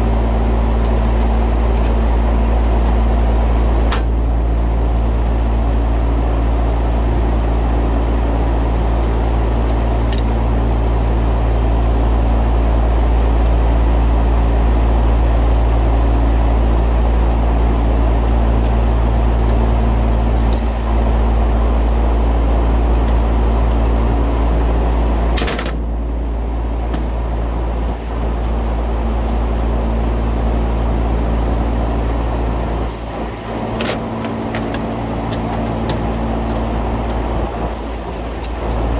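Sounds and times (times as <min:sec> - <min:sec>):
refrigeration machinery droning: 0:00.0 - 0:38.9.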